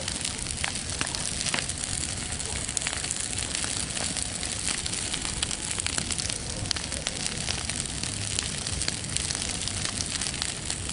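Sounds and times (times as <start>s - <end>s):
bonfire crackling and popping: 0.0s - 10.9s
fire rushing hiss: 0.0s - 10.9s.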